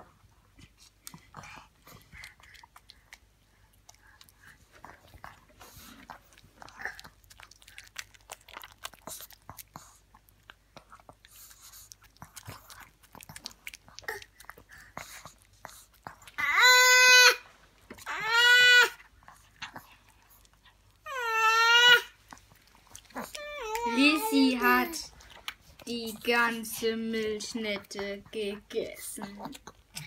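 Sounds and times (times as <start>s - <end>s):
dog chewing and licking: 0.6s - 16.5s, 19.0s - 30.0s.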